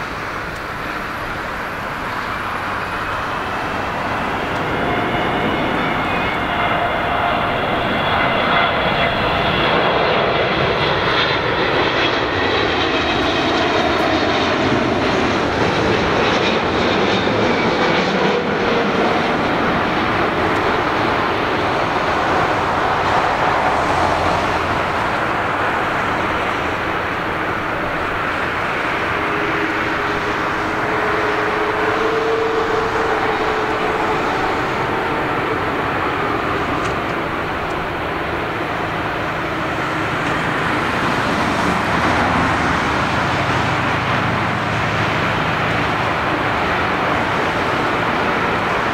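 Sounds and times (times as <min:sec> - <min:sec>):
jet engines rushing: 0:00.0 - 0:48.9.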